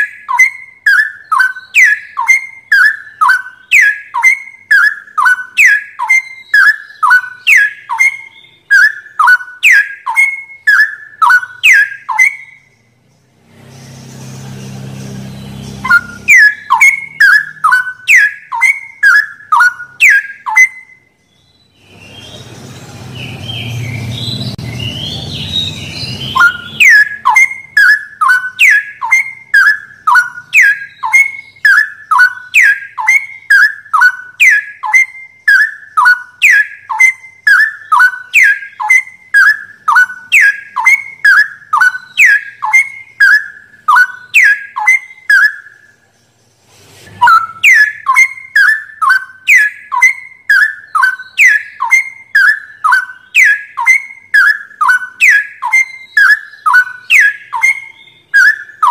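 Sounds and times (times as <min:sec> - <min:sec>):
bird whistling song: 0:00.0 - 0:46.4, 0:47.1 - 0:58.9.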